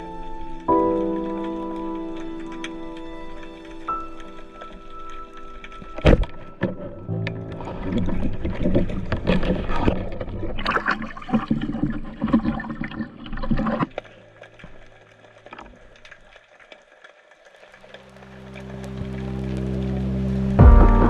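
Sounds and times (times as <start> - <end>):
faint underwater crackle: 0.0 - 21.0
water splashing and bubbling: 0.0 - 21.0.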